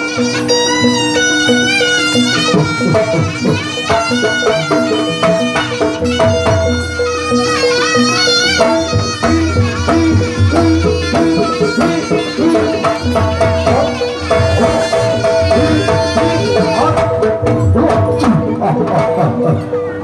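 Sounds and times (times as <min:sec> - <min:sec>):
shrill reedy wind melody: 0:00.0 - 0:18.5
steady drumming: 0:01.4 - 0:19.4.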